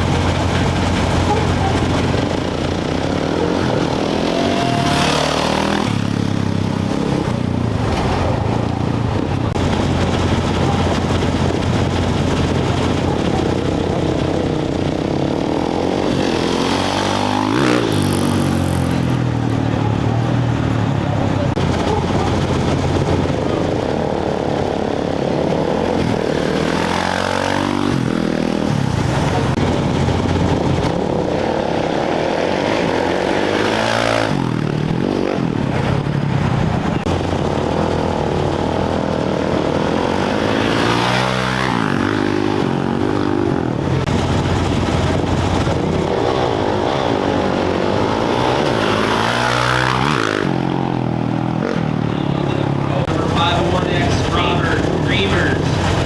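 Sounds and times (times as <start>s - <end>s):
drone of motorcycle engines: 0.0s - 56.0s
motorcycle revving through gears: 0.0s - 56.0s.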